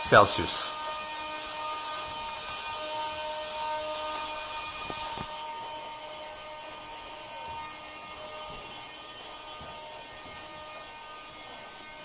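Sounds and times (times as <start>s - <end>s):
servo motors whining: 0.5s - 12.0s.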